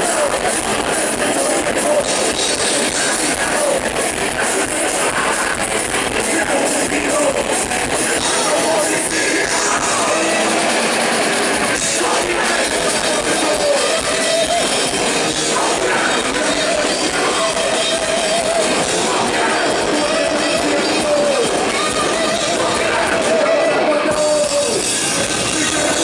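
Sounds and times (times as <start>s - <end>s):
distorted guitars: 0.0s - 26.0s
drum kit: 0.0s - 26.0s.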